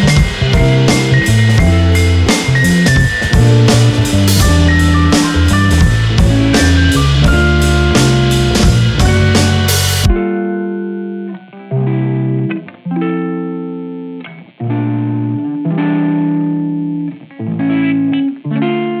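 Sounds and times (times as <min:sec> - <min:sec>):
plucked string chords: 0:00.0 - 0:19.0.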